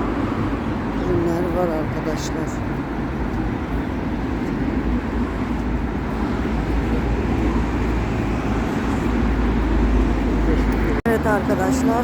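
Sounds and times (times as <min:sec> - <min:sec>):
passing cars rumbling: 0:00.0 - 0:12.0.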